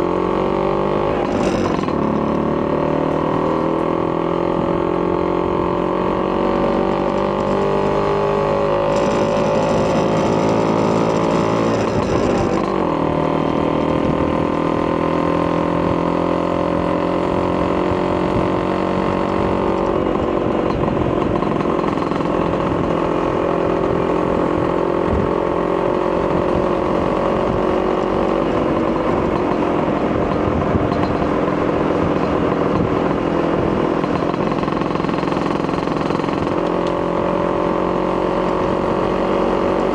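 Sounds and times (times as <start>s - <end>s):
two-stroke scooter engine running: 0.0s - 39.9s.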